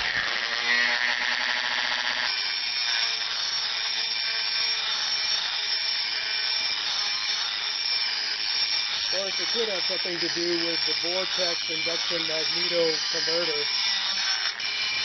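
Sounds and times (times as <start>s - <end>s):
rotary tool grinding metal: 0.0s - 15.0s.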